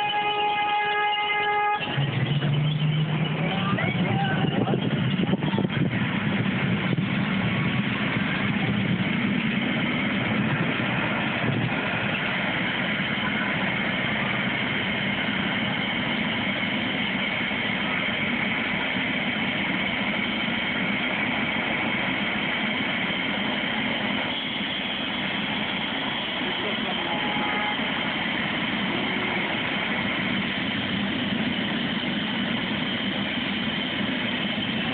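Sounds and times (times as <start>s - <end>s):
helicopter turbine engine idling: 0.0s - 34.9s.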